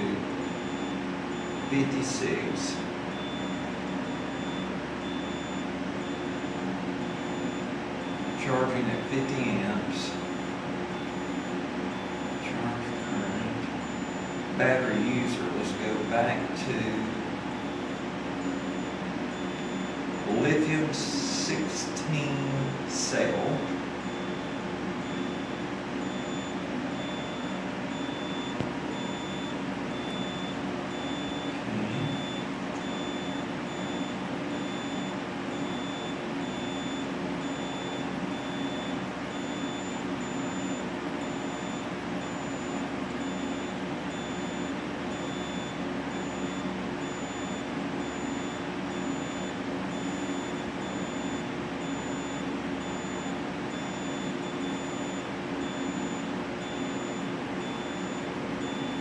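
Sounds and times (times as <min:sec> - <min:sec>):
high-pitched alarm beeps: 0:00.0 - 0:59.0
steady low hum: 0:00.0 - 0:59.0.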